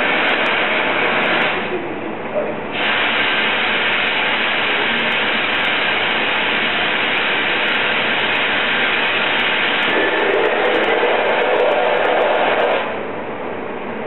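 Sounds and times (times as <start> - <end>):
torch flame hissing: 0.0 - 1.8, 2.7 - 13.0.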